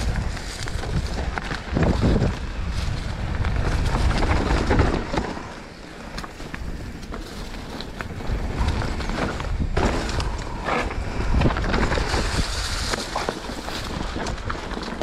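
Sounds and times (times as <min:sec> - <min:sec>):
bike clicks and rattles: 0:00.0 - 0:15.0
bike tyres on dirt: 0:00.0 - 0:15.0
wind rumbling over microphone: 0:00.0 - 0:15.0.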